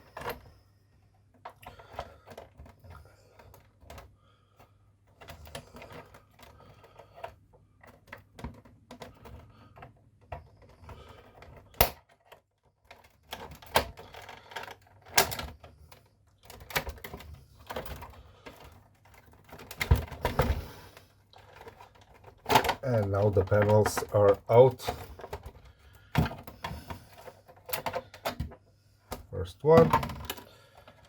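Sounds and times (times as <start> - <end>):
plastic panels clicking and snapping: 5.1 - 31.0.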